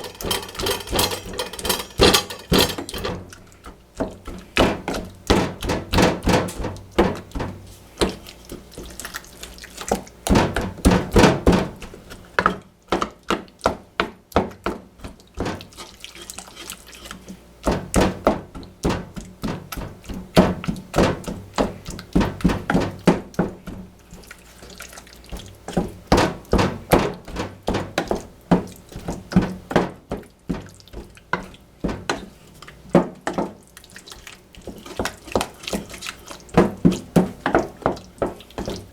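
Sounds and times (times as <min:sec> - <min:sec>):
kitchen knocks and clatter: 0:00.0 - 0:08.2, 0:09.9 - 0:15.7, 0:17.6 - 0:23.9, 0:25.4 - 0:33.6, 0:34.6 - 0:38.9.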